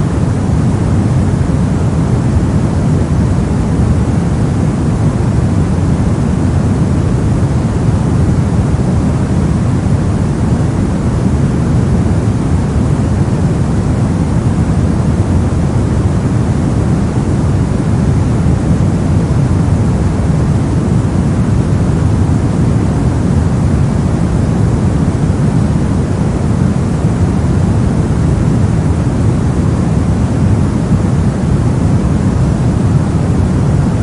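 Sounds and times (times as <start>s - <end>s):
brown noise rumble: 0.0s - 34.0s.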